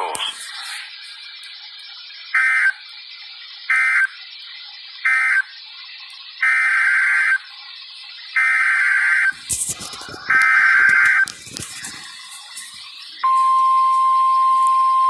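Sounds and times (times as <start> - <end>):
steady hiss: 0.0 - 8.4, 9.3 - 13.2
digital data bursts: 0.0 - 13.9.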